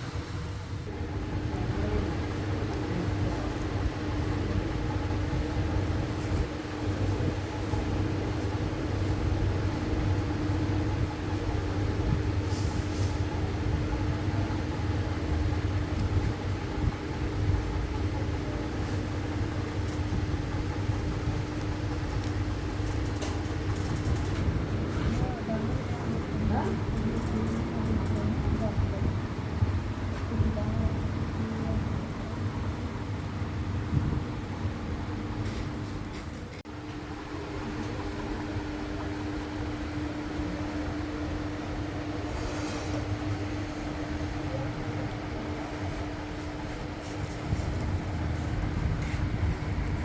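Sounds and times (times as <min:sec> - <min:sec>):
workshop machine humming: 0:00.0 - 0:50.0.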